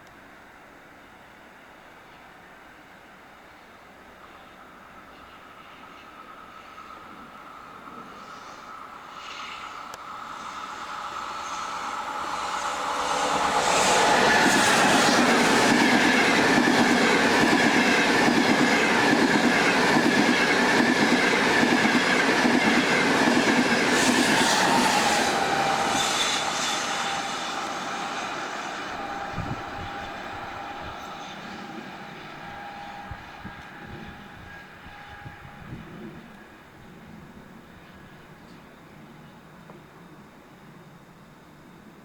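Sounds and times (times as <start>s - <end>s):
train passing with whine: 0.0s - 42.0s.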